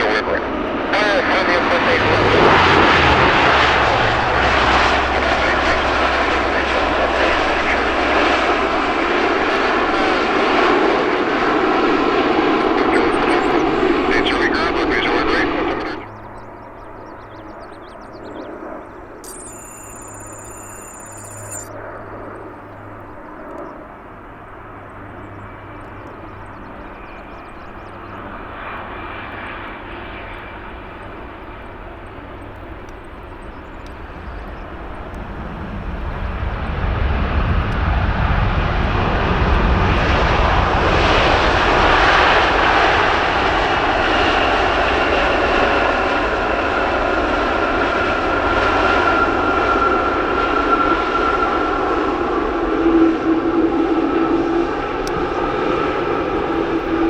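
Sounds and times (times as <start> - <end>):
high jet engine whine: 0.0 - 57.0
jet engines rushing: 0.0 - 57.0.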